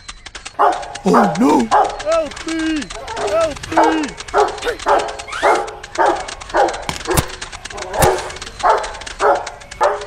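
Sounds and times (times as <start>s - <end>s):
sharp clicks: 0.0s - 10.0s
dog barking: 0.6s - 2.1s, 3.1s - 10.0s.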